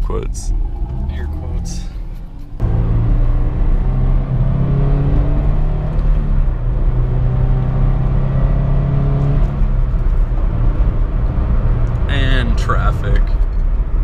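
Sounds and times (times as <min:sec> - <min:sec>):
car engine heard from cabin: 0:00.0 - 0:14.0.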